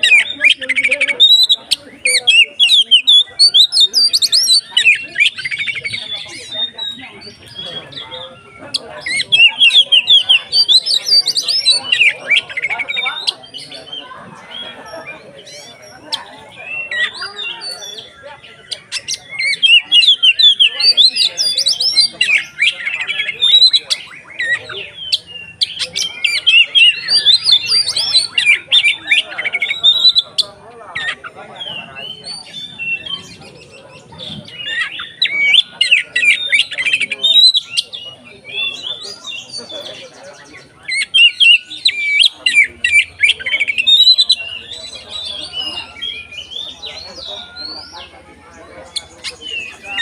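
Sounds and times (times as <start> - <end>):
bird singing whistles and chatter: 0.0 - 50.0.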